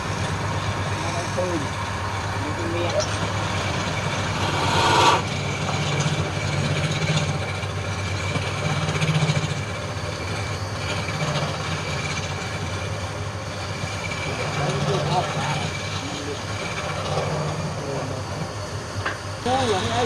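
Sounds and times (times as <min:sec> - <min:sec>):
wood lathe motor running: 0:00.0 - 0:20.0.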